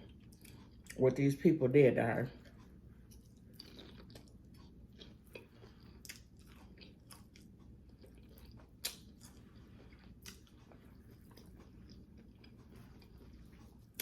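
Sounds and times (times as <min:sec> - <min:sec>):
chewing crunchy taco: 0:00.0 - 0:01.4, 0:02.2 - 0:14.0.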